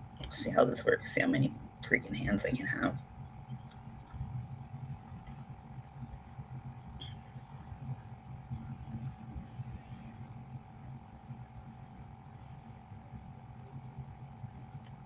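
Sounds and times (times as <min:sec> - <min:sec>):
low throbbing hum: 0:01.5 - 0:15.0.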